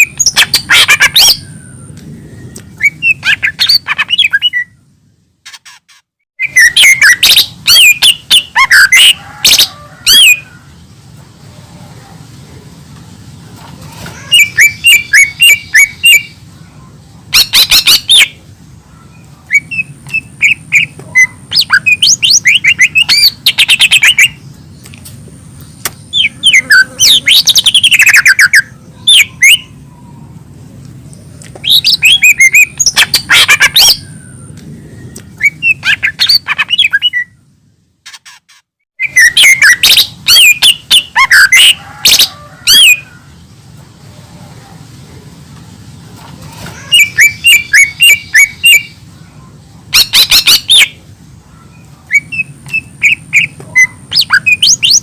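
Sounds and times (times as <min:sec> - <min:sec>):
bird singing chirps and trills: 0:00.0 - 0:04.9, 0:06.4 - 0:10.9, 0:14.2 - 0:25.0, 0:25.6 - 0:37.5, 0:39.0 - 0:43.6, 0:46.7 - 0:55.0.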